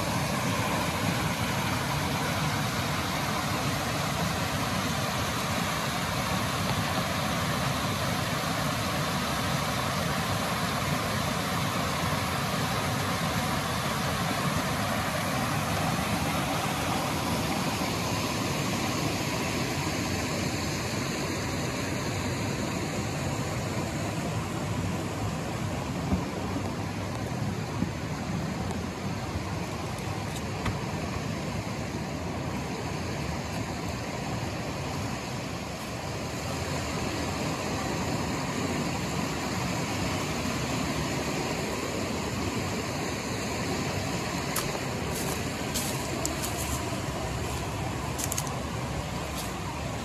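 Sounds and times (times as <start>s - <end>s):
creek rushing over rocks: 0.0s - 50.0s.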